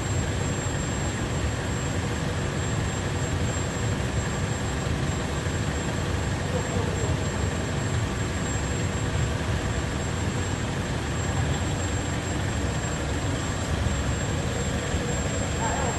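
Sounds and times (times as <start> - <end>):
furnace rumble and hiss: 0.0 - 15.9
high steady whine: 0.0 - 15.9.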